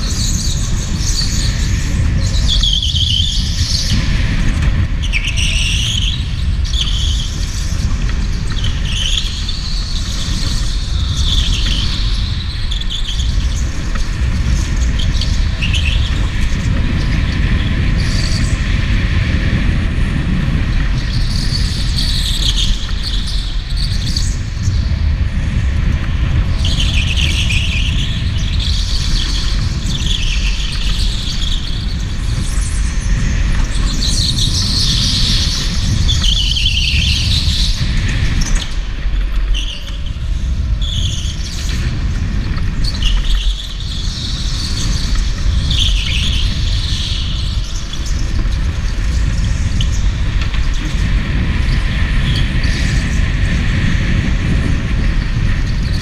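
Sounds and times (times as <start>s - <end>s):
go-kart tyres squealing: 0.0s - 19.7s, 20.5s - 56.0s
kart rumbling at speed: 0.0s - 56.0s.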